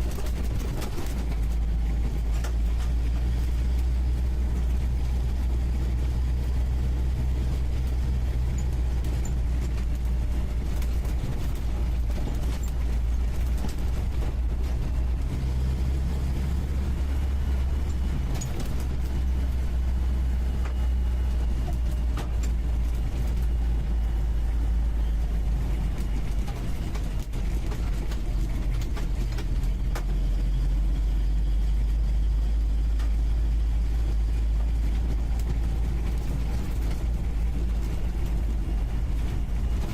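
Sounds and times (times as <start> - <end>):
vehicle engine heard from inside: 0.0 - 39.9.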